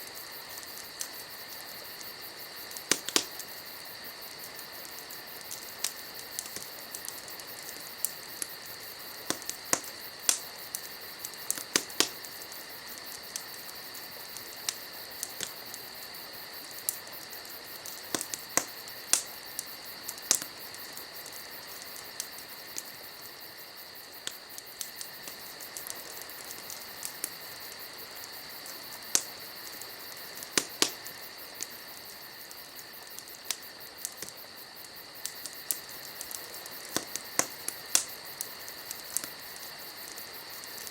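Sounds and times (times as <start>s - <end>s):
insect trill: 0.0s - 40.9s
wood fire crackling: 0.0s - 40.9s.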